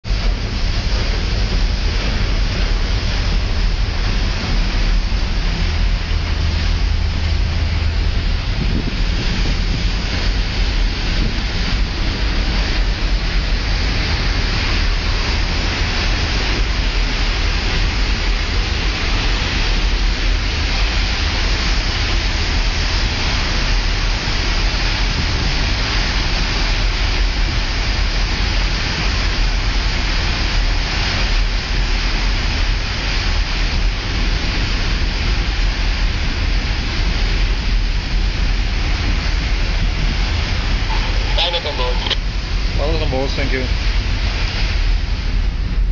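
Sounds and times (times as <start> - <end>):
wind buffeting microphone: 0.0 - 45.9
hiss of spray and wash: 0.1 - 45.9.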